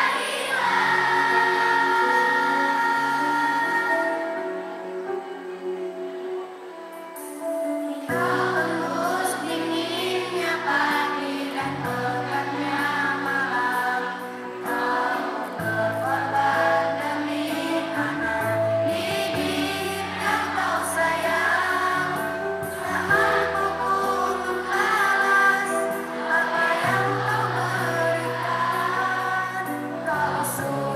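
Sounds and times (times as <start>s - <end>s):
children singing: 0.0s - 4.6s, 8.0s - 30.9s.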